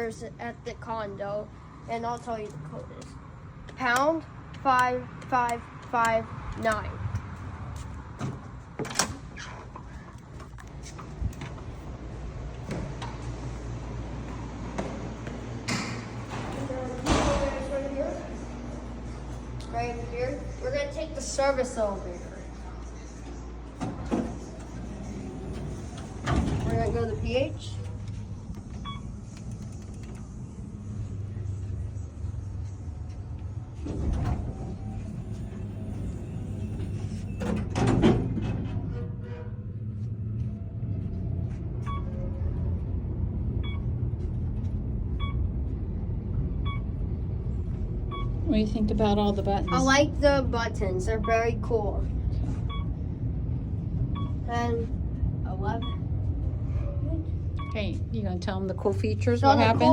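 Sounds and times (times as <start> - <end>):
elevator humming and rumbling: 0.0 - 59.9.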